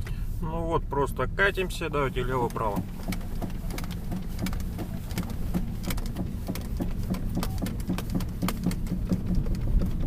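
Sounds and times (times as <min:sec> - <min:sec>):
low road and cabin rumble: 0:00.0 - 0:10.0.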